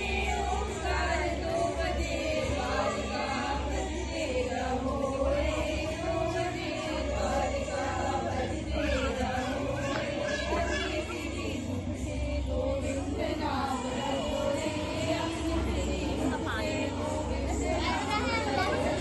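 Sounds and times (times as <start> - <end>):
women singing in unison: 0.0 - 19.0.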